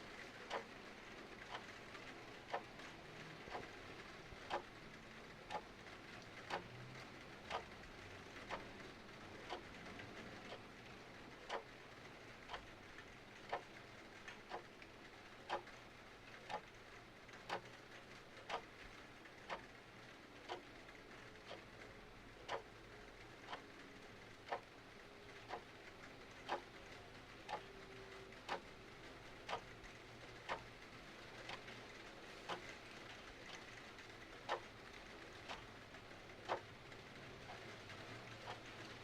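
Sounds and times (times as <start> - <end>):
mechanical clock ticking: 0.4 - 11.8, 12.4 - 39.0.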